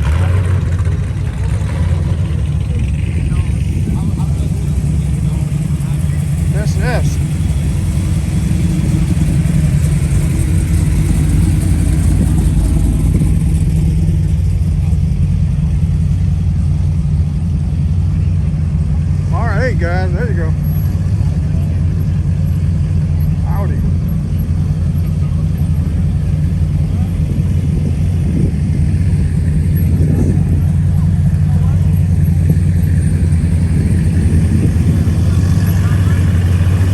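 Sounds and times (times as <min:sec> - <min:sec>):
faint voices: 0:00.0 - 0:16.0, 0:18.1 - 0:36.9
car engine running: 0:00.0 - 0:36.9.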